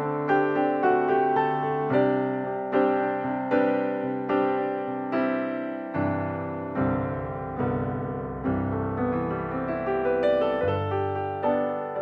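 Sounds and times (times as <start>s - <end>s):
slow piano piece: 0.0s - 12.0s.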